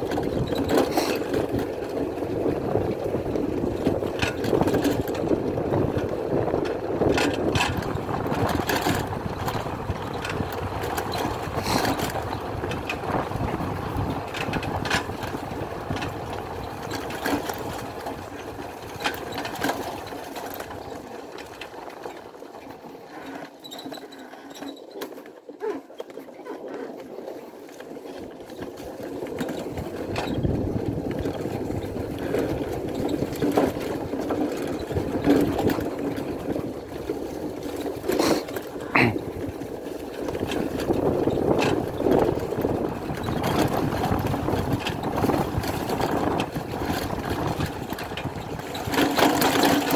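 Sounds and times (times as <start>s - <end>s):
two-stroke motorcycle engine: 0.0s - 49.9s.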